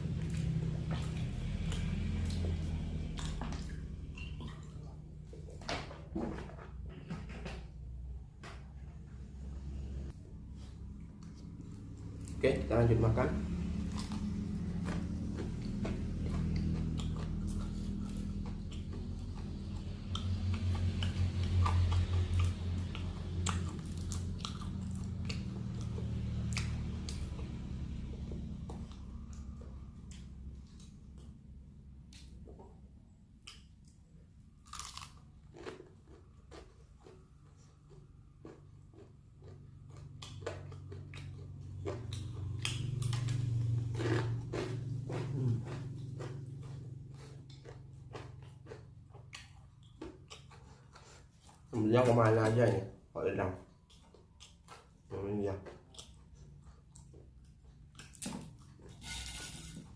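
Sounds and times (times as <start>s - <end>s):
crunchy chewing: 0.0s - 5.7s, 10.1s - 59.9s
low hum: 0.0s - 54.0s.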